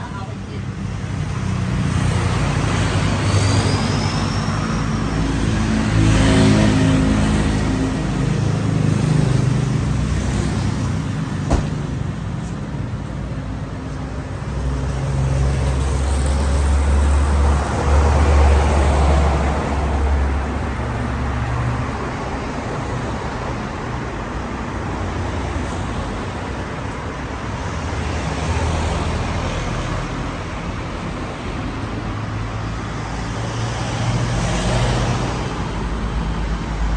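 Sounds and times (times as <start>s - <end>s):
road traffic noise: 0.0s - 36.9s.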